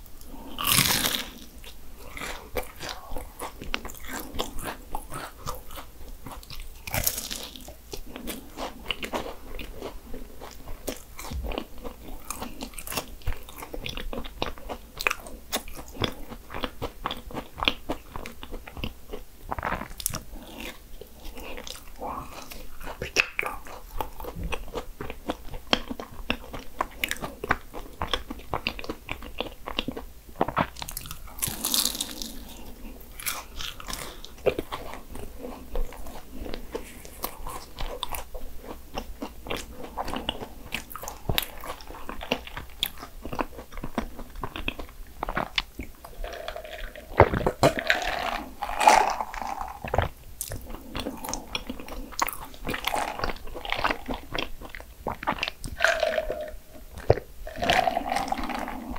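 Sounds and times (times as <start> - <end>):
chewing crisp pastry: 0.1 - 58.9.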